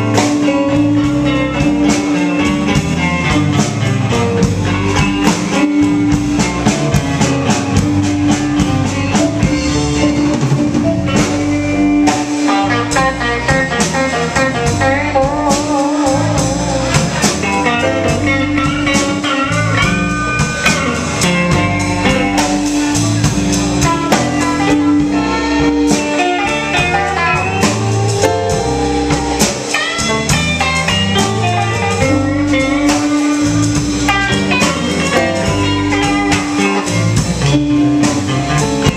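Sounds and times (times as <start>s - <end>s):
bass: 0.0s - 38.9s
drums: 0.0s - 38.9s
lead guitar with bent notes: 0.0s - 38.9s.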